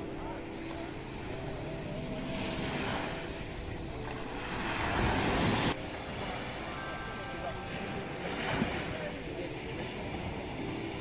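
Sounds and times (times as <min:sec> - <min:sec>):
waves washing onto beach: 0:00.0 - 0:11.0
wind on microphone: 0:00.0 - 0:11.0.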